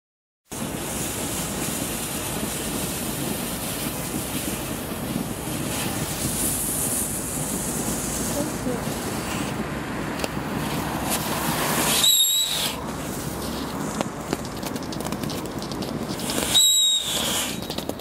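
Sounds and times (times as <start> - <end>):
firework spark fountain hissing: 0.5 - 18.0
steady rushing noise: 0.5 - 18.0.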